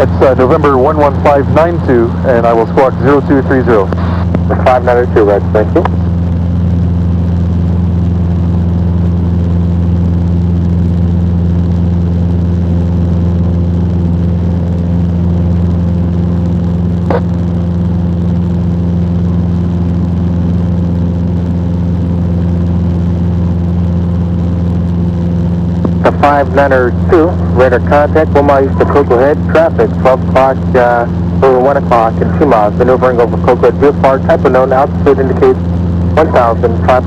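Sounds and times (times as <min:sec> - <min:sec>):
airplane engine and propeller droning: 0:00.0 - 0:37.0.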